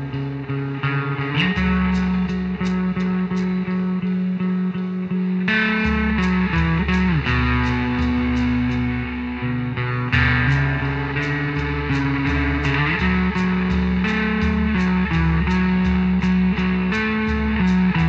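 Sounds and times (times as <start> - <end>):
guitar picking chords: 0.0 - 18.0.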